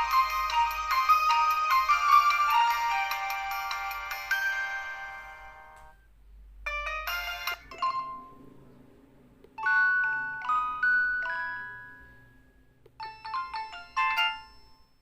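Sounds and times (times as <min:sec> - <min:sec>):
phone chime jingle: 0:00.0 - 0:05.7, 0:06.7 - 0:08.5, 0:09.6 - 0:15.0
phone ringtone chiming melody: 0:00.0 - 0:05.8, 0:06.6 - 0:08.6, 0:09.6 - 0:15.0.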